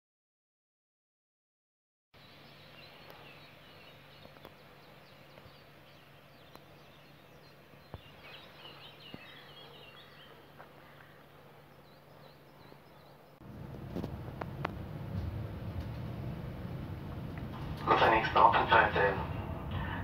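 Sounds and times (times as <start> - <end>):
birds chirping and twittering: 2.2 - 20.0
low steady hum: 2.2 - 20.0.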